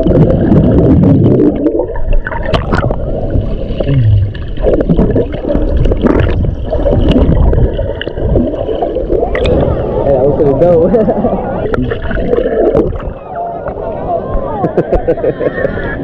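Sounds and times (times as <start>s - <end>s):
sea water sloshing and gurgling: 0.0s - 14.3s.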